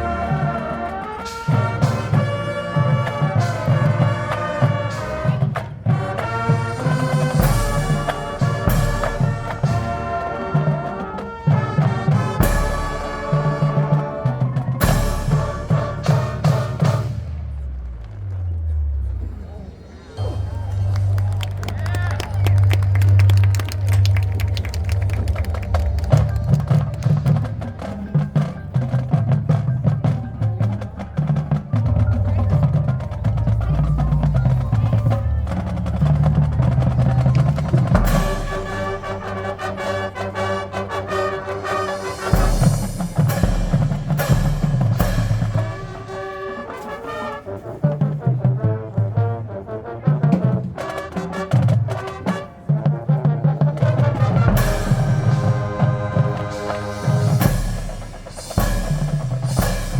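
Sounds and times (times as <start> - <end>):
drums: 0.0 - 59.9
marching band playing: 0.0 - 59.9.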